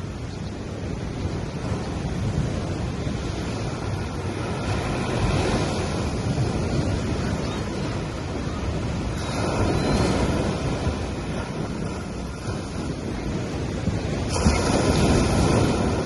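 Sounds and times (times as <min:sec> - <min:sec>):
ocean waves washing onto beach: 0:00.0 - 0:16.0.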